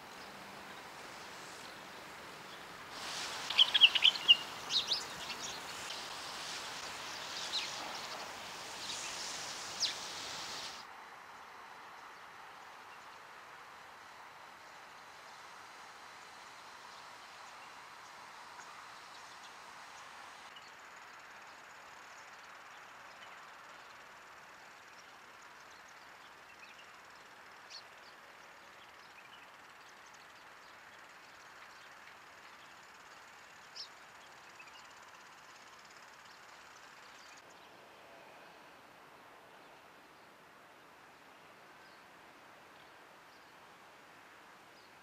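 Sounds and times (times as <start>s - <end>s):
outdoor background hiss: 0.0s - 45.0s.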